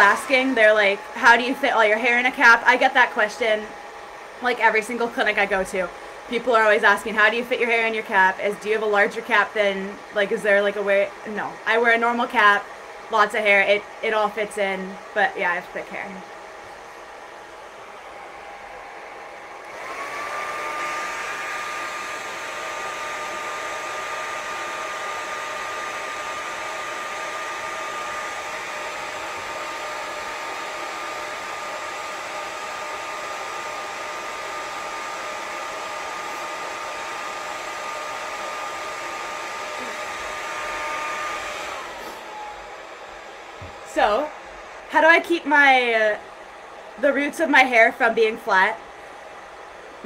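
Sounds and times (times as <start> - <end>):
hair dryer running: 0.0 - 50.0.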